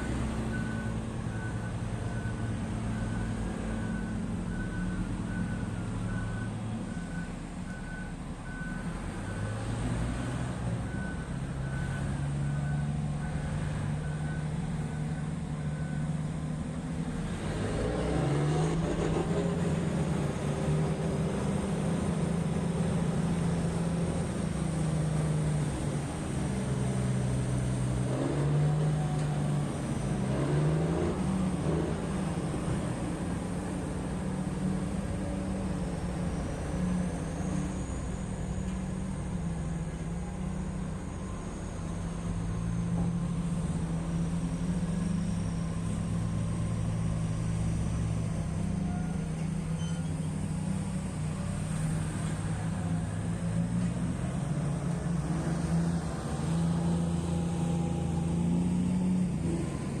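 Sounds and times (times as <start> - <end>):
heavy diesel engine running: 0.0 - 60.0.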